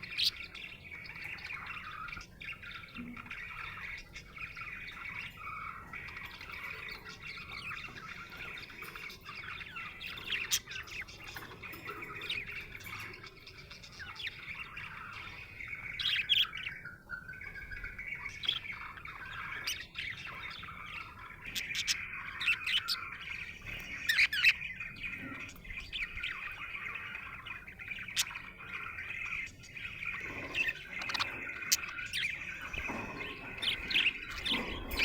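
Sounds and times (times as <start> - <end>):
budgerigar chirping and warbling: 0.0 - 35.0.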